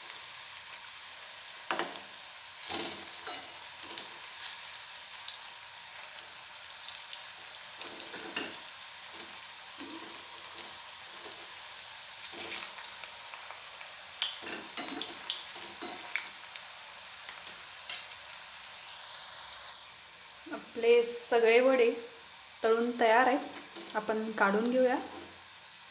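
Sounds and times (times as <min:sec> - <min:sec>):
food deep-frying in oil: 0:00.0 - 0:25.9.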